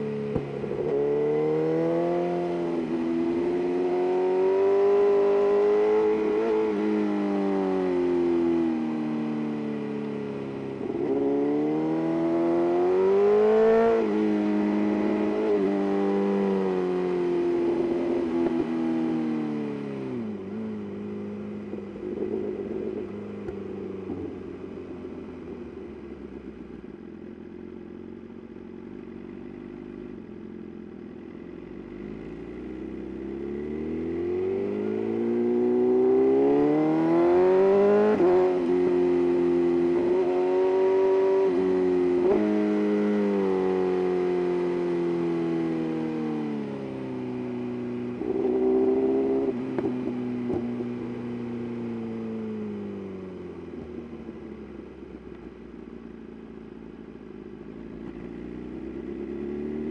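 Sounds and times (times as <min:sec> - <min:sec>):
motorcycle engine revving: 0:00.0 - 0:09.2, 0:10.3 - 0:26.5, 0:31.4 - 0:55.2, 0:57.5 - 0:59.9.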